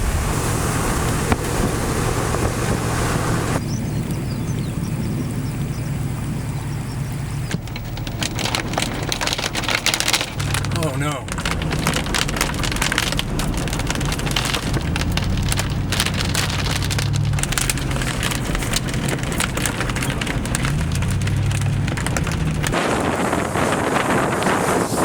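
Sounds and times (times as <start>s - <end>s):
rain beating on vehicle: 0.0s - 3.6s, 4.6s - 23.8s
car engine running: 0.0s - 22.8s
wind rushing on microphone: 0.0s - 25.0s.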